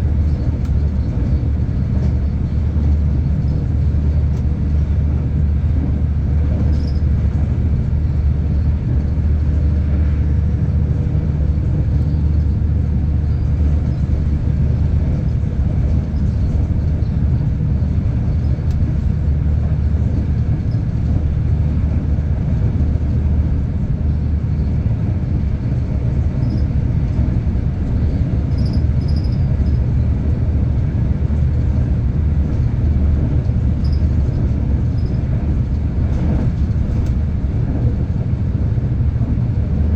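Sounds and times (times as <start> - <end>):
constant hum: 0.0 - 39.9
train running at speed: 0.0 - 39.9.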